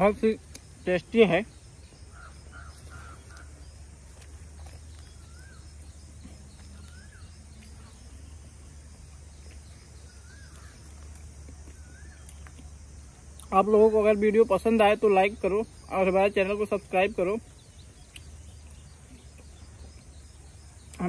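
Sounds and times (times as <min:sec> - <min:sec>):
bird chirps: 0:00.0 - 0:21.0
steady low hum: 0:00.0 - 0:21.0.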